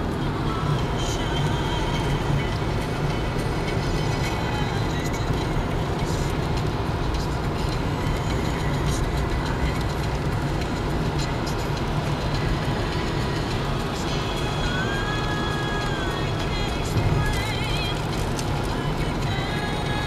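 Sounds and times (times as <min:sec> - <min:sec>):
car road noise: 0:00.0 - 0:20.0.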